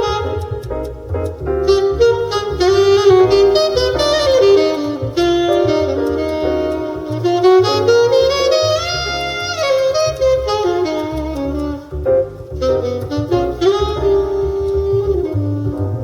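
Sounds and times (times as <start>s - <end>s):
saxophone melody: 0.0s - 16.0s
upright bass notes: 0.0s - 16.0s.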